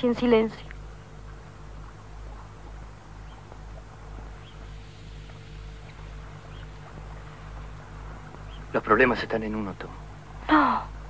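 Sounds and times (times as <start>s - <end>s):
film soundtrack hum and hiss: 0.0s - 11.0s.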